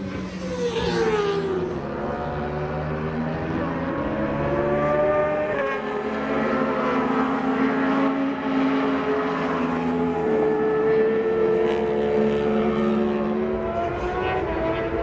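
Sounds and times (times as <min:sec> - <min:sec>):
racing motorcycles at high revs: 0:00.0 - 0:15.0.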